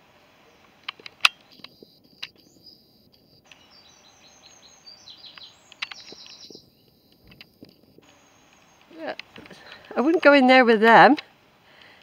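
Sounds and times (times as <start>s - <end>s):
small birds chirping: 0.4s - 11.1s.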